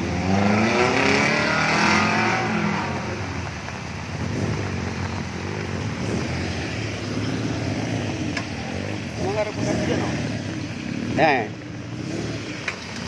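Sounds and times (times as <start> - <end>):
rushing floodwater: 0.0 - 13.0
vehicle engine revving: 0.0 - 13.0.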